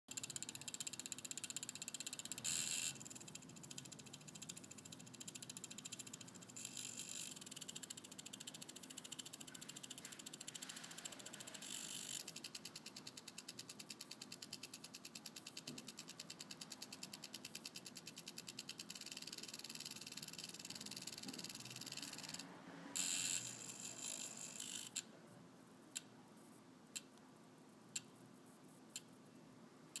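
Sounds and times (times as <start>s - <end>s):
fast fine ratcheting clicking: 0.1s - 22.4s, 23.0s - 25.0s
sharp watch ticks: 0.1s - 25.1s, 25.9s - 26.1s, 26.9s - 27.2s, 27.9s - 28.2s, 28.9s - 29.1s.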